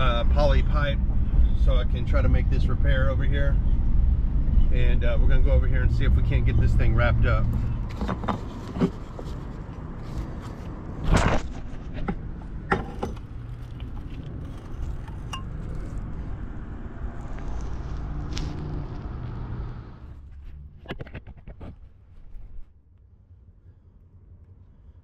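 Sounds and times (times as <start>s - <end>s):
vehicle rumble inside cab: 0.0s - 25.0s.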